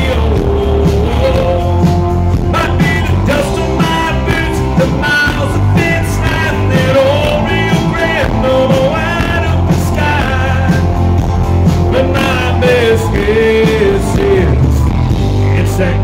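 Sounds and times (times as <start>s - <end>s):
man singing: 0.0s - 11.1s, 11.7s - 16.0s
acoustic guitar: 0.0s - 16.0s
drums: 0.0s - 16.0s
electric bass: 0.0s - 16.0s.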